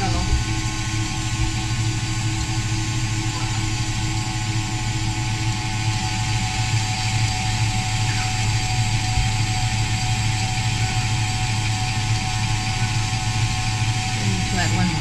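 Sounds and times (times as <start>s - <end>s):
stand mixer motor humming: 0.0s - 15.0s.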